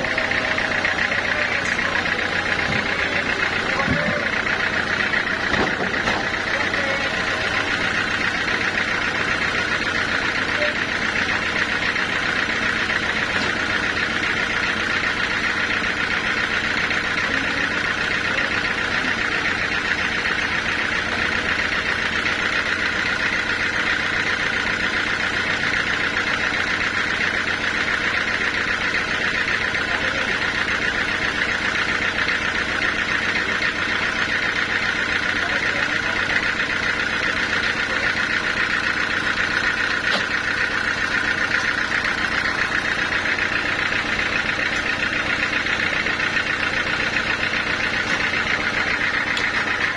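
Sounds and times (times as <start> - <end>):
sawmill machinery whining hum: 0.0 - 49.9.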